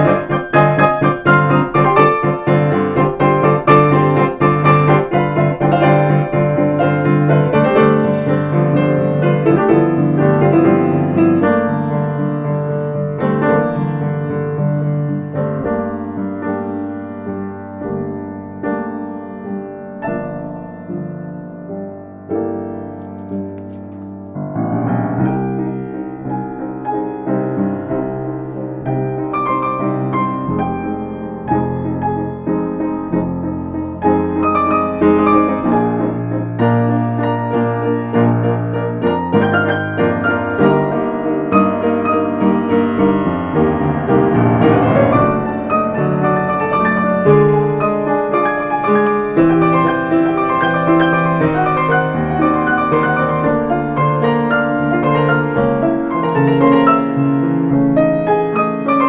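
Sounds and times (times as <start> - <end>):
slow classical piano piece: 0.0 - 59.0.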